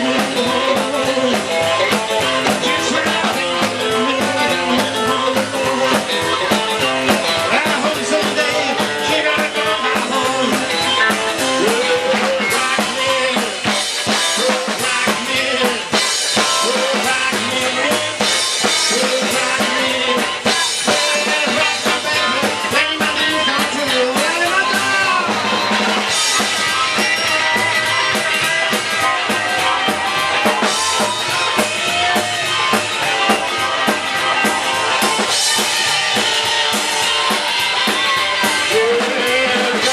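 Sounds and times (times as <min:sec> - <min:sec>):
drum kit beat: 0:00.0 - 0:39.9
electric guitar: 0:00.0 - 0:39.9
rock band playing: 0:00.0 - 0:39.9.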